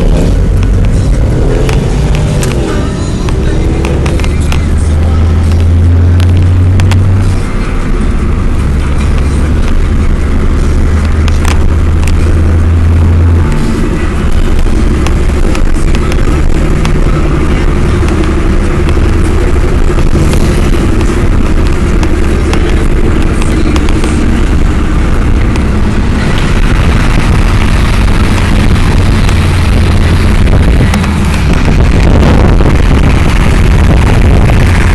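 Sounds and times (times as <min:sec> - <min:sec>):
car engine running loud: 0:00.0 - 0:34.9.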